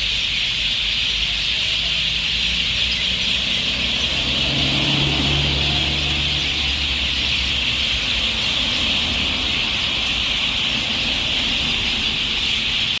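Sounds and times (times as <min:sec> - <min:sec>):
many birds chirping: 0:00.0 - 0:13.0.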